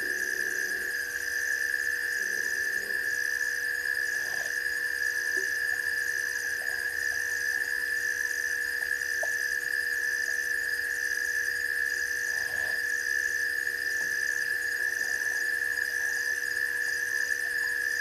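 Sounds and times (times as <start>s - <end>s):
insects droning: 0.0s - 18.0s
pulsing insect trill: 0.0s - 18.0s.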